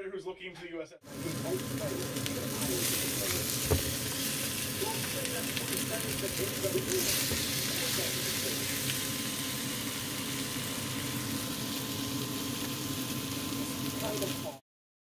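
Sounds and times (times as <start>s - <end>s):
food frying in oil: 1.0s - 14.6s.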